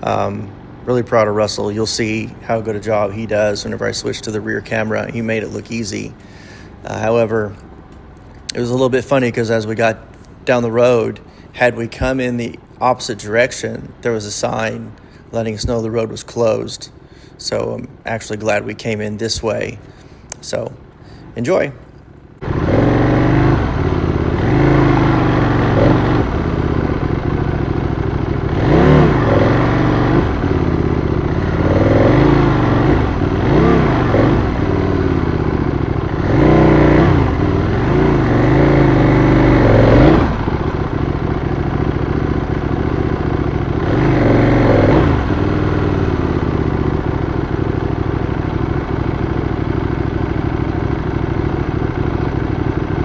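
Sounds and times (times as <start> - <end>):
riding noise: 0.0 - 47.8
motorcycle engine revving: 0.0 - 53.0.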